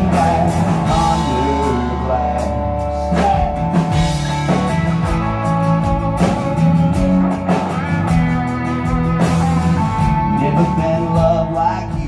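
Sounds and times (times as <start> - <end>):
guitar: 0.0 - 12.0.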